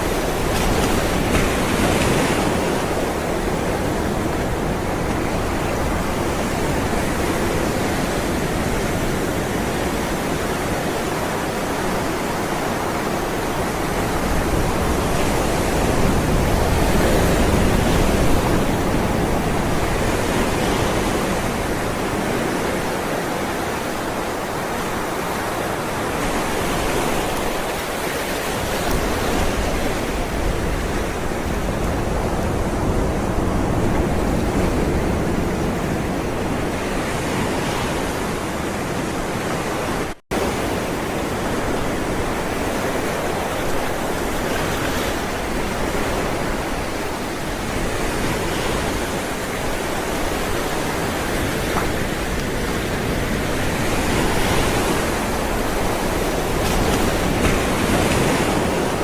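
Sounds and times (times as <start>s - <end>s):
ocean waves on shore: 0.0s - 59.0s.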